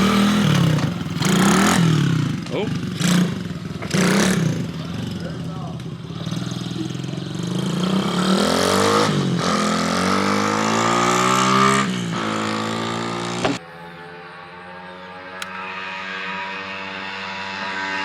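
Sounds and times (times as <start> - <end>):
motorbike engine accelerating hard: 0.0 - 18.0.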